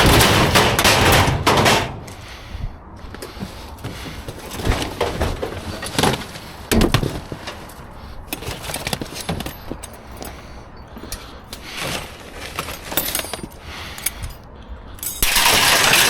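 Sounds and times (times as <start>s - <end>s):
scrap metal clanking and rattling: 0.0s - 2.4s, 3.1s - 16.0s.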